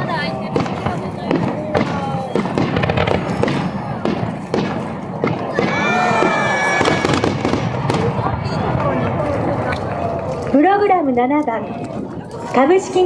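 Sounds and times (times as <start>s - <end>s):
fireworks bangs and crackles: 0.0s - 13.0s
spectators' voices: 0.0s - 13.0s.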